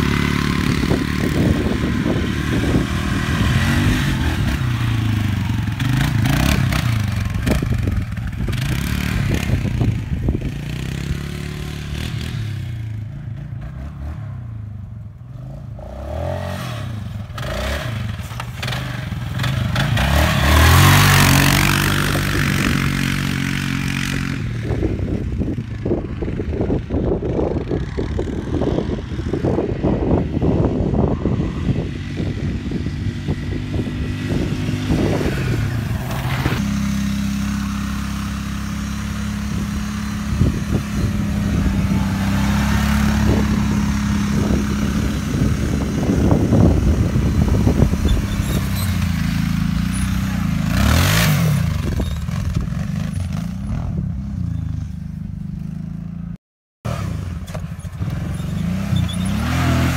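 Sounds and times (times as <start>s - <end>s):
quad engines revving: 0.0s - 56.0s, 56.9s - 59.9s.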